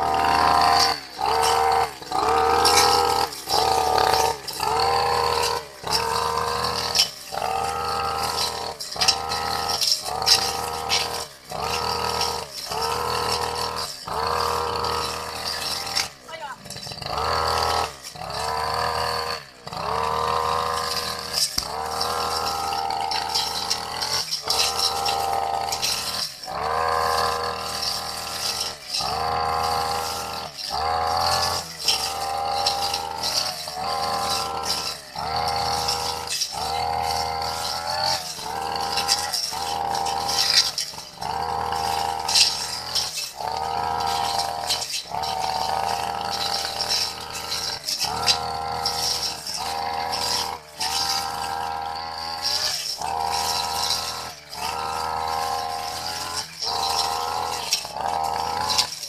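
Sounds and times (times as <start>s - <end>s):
brush cutter engine: 0.0s - 59.0s
grass rattling against blade: 0.0s - 59.0s.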